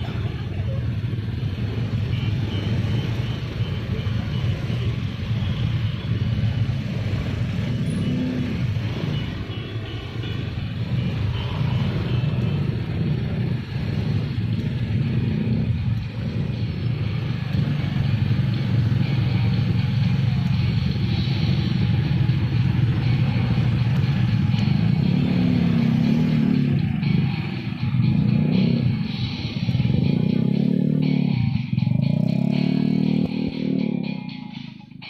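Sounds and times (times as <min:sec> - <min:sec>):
motor scooters idling: 0:00.0 - 0:34.7.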